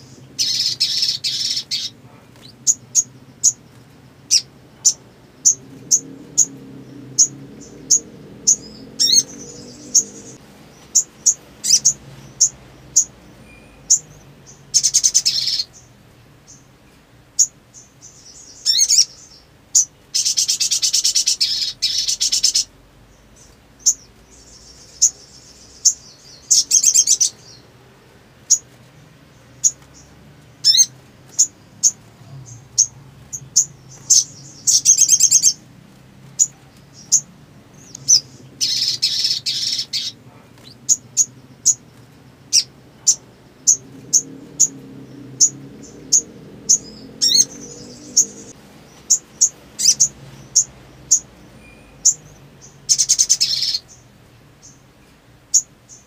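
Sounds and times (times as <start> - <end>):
bird rapid trills: 0.0 - 15.9, 17.4 - 22.7, 23.4 - 27.6, 29.4 - 35.6, 36.4 - 54.0.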